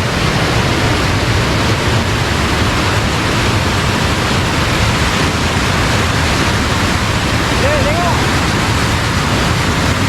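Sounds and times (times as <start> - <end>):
fast-flowing water rushing: 0.0 - 10.0.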